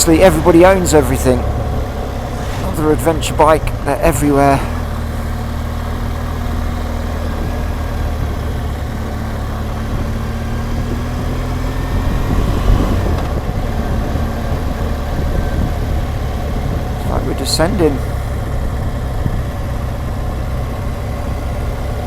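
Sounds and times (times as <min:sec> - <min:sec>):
motorcycle engine riding: 0:00.0 - 0:22.0.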